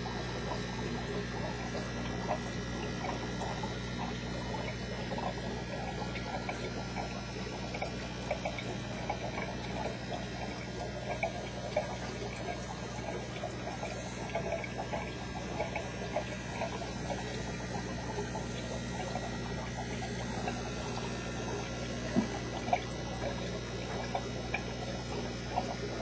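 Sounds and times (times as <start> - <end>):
pump hum: 0.0 - 26.0
water trickling and bubbling: 0.0 - 26.0.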